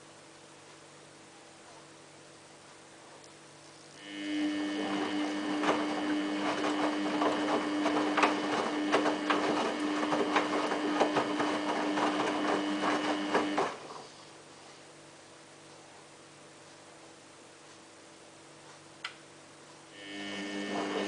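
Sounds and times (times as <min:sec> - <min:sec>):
washing machine humming and clicking: 0:00.0 - 0:21.0.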